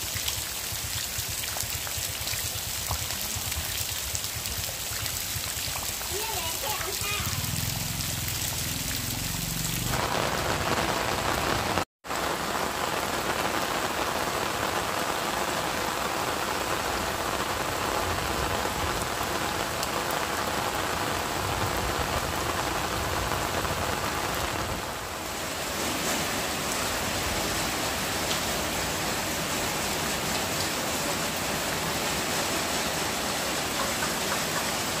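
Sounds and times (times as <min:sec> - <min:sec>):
heavy rain on foliage: 0:00.0 - 0:35.0.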